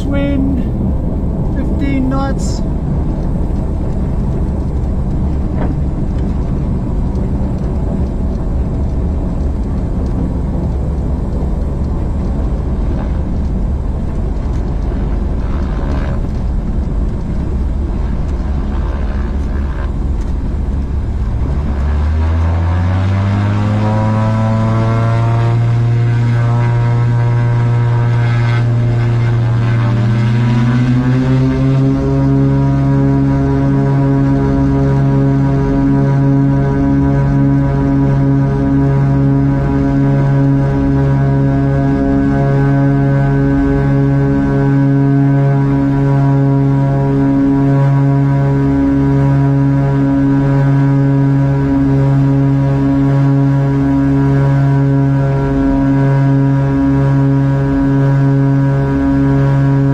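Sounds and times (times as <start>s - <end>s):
light aircraft engine drone: 0.0s - 59.9s.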